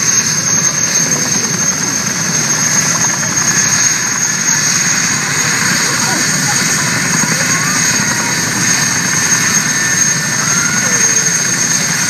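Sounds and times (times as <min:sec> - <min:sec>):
helicopter engine whine: 0:00.0 - 0:12.0.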